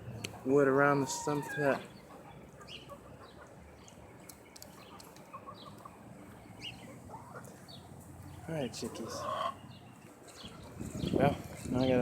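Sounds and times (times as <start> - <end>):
low outdoor background noise: 0.0 - 12.0.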